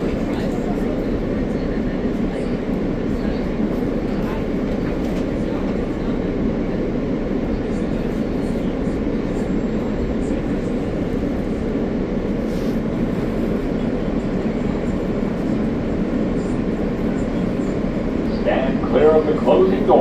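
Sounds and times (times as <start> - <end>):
subway car rumble and hiss: 0.0 - 20.0.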